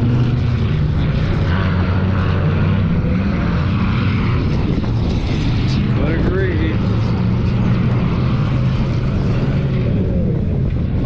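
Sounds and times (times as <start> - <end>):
engines droning: 0.0 - 11.0.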